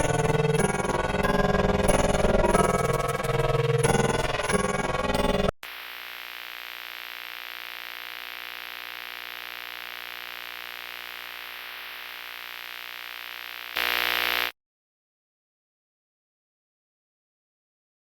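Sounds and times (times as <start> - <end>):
electronic drone of held tones: 0.0 - 14.5.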